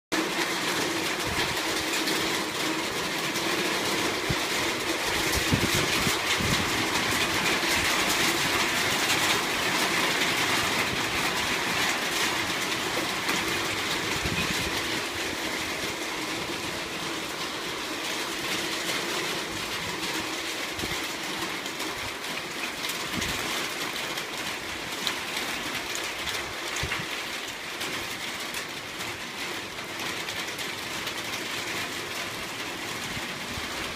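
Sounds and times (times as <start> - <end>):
close rain splashes: 0.1 - 33.9
heavy rain pouring: 0.1 - 33.9.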